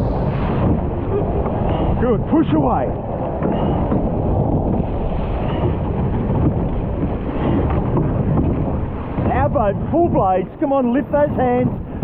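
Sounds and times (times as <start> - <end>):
water rushing past boat hull: 0.0 - 12.0
wind buffeting microphone: 0.0 - 12.0.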